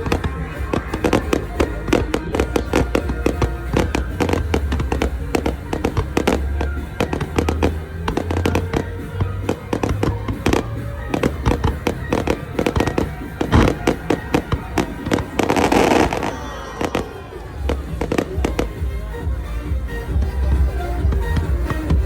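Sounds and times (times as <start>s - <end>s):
fireworks sharp bangs: 0.0s - 19.1s
music: 0.0s - 22.0s.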